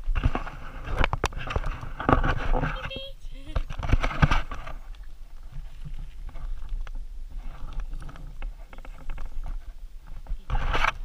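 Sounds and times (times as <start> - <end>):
camera rubbing and knocking: 0.0 - 11.0.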